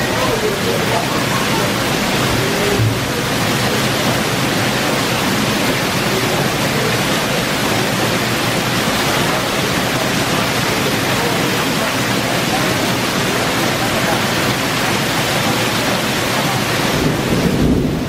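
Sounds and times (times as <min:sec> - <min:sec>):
rain pouring off roof onto tiles: 0:00.0 - 0:18.0.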